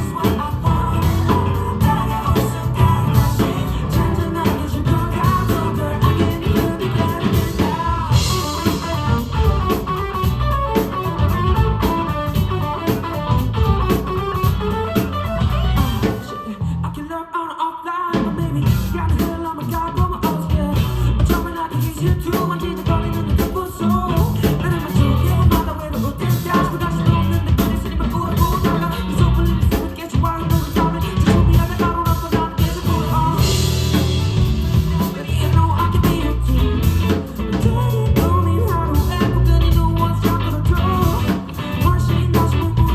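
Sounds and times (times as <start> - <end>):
live pop-rock band playing: 0.0 - 17.0, 18.1 - 42.9.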